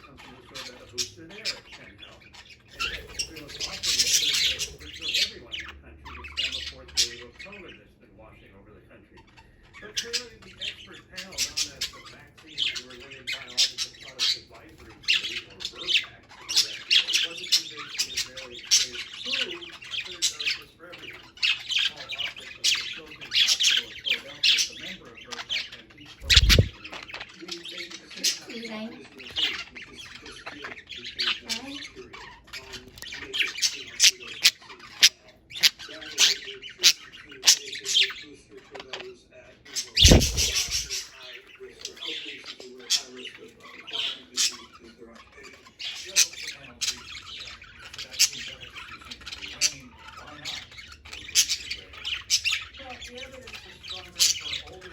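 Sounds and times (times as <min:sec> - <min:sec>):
budgerigars squawking and chirping: 0:00.0 - 0:54.9.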